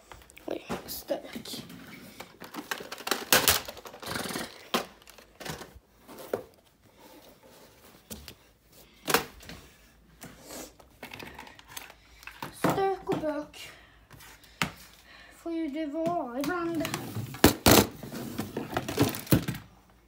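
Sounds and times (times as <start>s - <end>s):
rustling with clicks and knocks: 0.0s - 15.1s, 15.7s - 20.0s.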